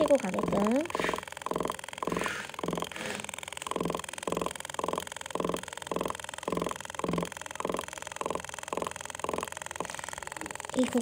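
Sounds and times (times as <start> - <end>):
tattoo handpiece buzzing in bursts: 0.0 - 10.8.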